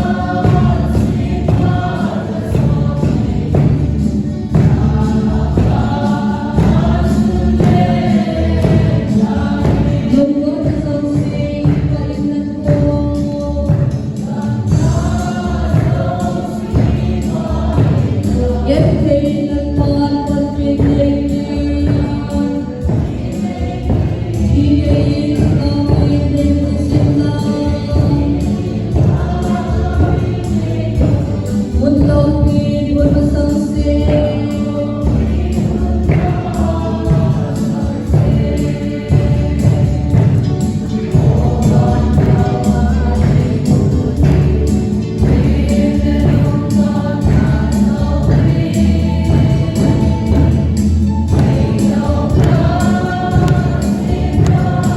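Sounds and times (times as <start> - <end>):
gospel choir singing: 0.0 - 54.9
instrumental accompaniment: 0.0 - 54.9.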